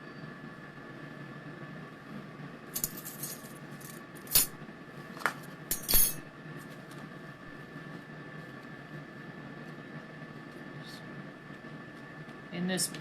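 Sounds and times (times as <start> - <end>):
air fryer humming: 0.0 - 13.0.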